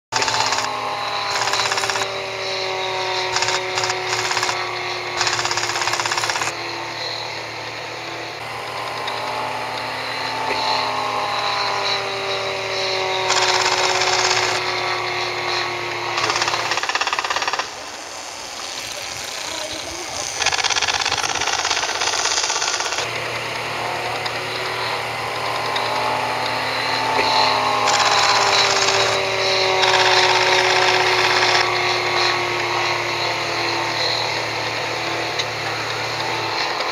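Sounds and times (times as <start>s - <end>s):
model airplane engine buzzing: 0.0s - 36.9s.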